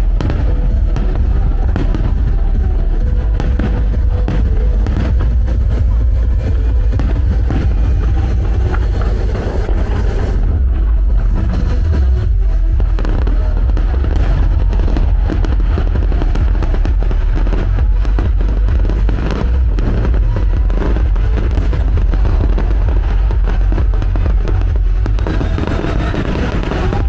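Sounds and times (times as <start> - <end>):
fireworks bursting and crackling: 0.0 - 27.0
loud music: 0.0 - 27.0.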